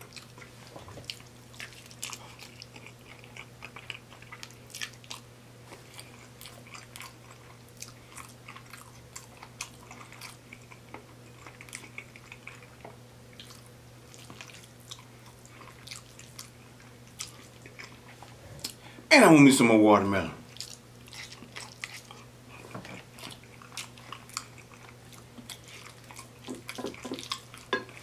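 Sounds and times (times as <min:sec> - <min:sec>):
person chewing spaghetti: 0:00.0 - 0:19.0, 0:20.5 - 0:28.0
steady low hum: 0:00.0 - 0:28.0.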